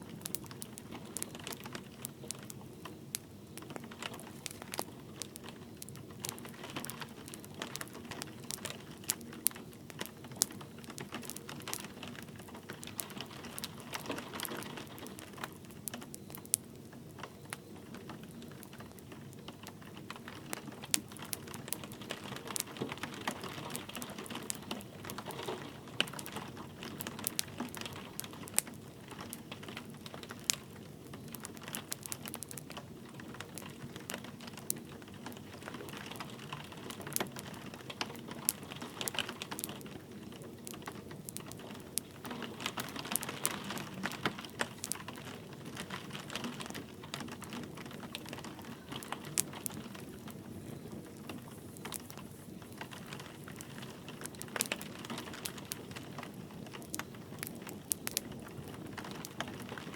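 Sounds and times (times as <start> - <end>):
light rain hissing: 0.0 - 59.9
wood fire crackling and popping: 0.0 - 59.9.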